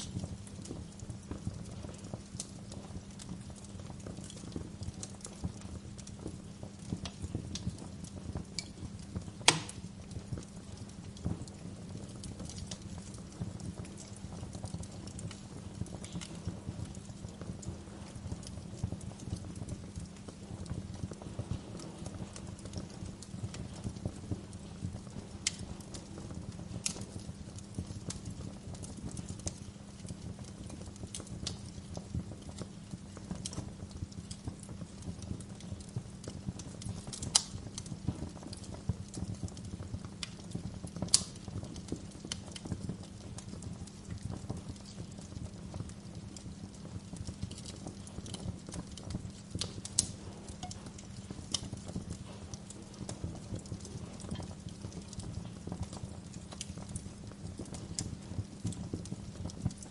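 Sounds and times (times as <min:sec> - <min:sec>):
sharp pops from fire: 0:00.0 - 0:59.9
wood fire crackling: 0:00.0 - 0:59.9.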